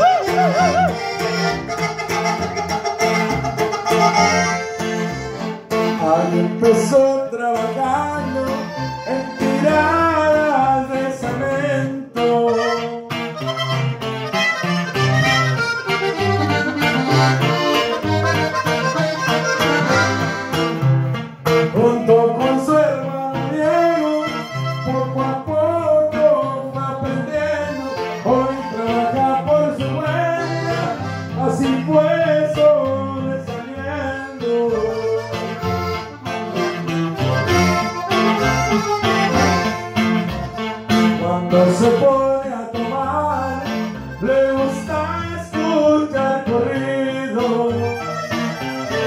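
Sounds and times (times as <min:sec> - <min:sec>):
button accordion melody: 0:00.0 - 0:49.0
guitar: 0:00.0 - 0:49.0.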